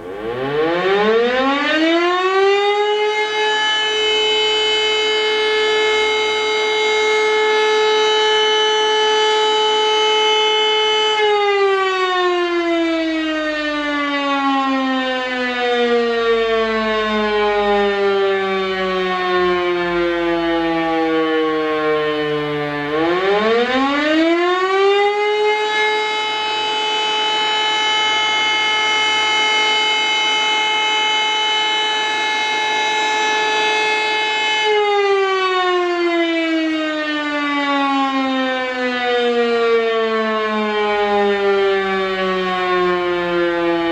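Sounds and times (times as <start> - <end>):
siren winding down and up: 0.0 - 43.9.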